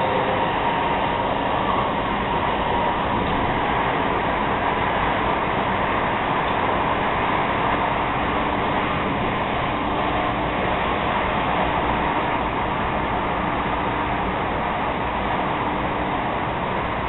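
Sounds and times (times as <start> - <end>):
faint steady hum: 0.0 - 17.0
train wheel and rail rumble: 0.0 - 17.0.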